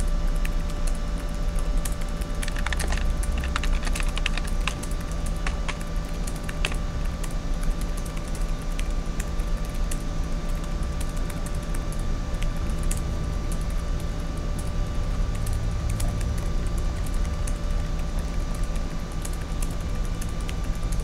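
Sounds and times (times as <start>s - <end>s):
faint electrical hum: 0.0s - 21.0s
computer keyboard clicks: 0.3s - 21.0s.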